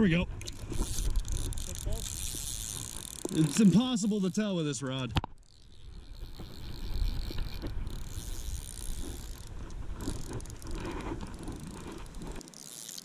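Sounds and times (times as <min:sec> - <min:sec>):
fishing reel drag clicking: 0:00.4 - 0:13.0.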